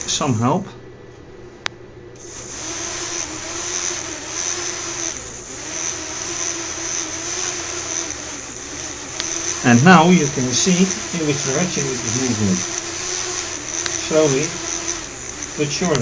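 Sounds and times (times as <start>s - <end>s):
small electric motors whirring: 0.0s - 0.3s, 2.2s - 16.0s.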